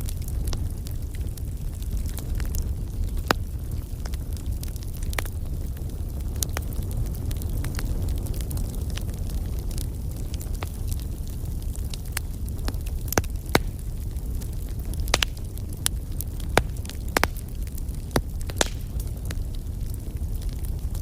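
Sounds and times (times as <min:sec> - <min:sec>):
burning logs popping and snapping: 0:00.0 - 0:21.0
wood fire roaring: 0:00.0 - 0:21.0.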